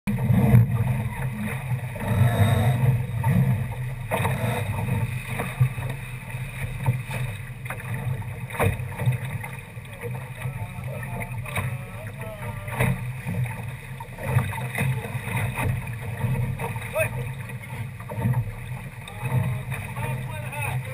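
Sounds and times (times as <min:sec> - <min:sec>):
water rushing along hull: 0:00.0 - 0:20.9
waves slapping hull: 0:00.1 - 0:20.9.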